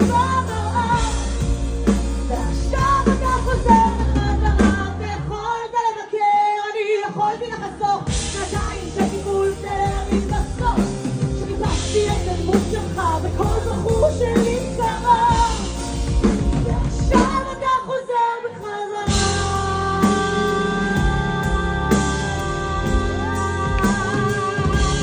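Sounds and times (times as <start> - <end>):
woman singing wordlessly: 0.0 - 1.6, 2.3 - 25.0
pop-rock band playing: 0.0 - 5.8, 7.0 - 25.0.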